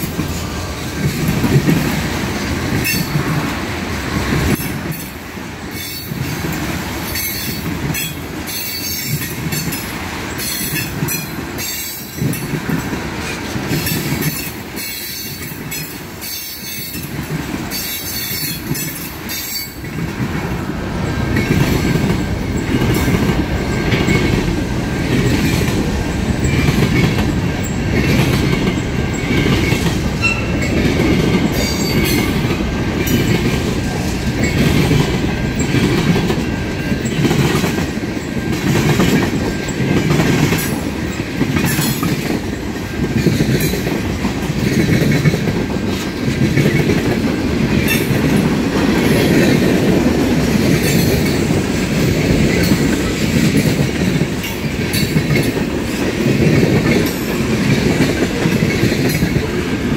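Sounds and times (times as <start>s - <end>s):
train rumble: 0.0s - 59.9s
train wheels clacking: 0.0s - 59.9s.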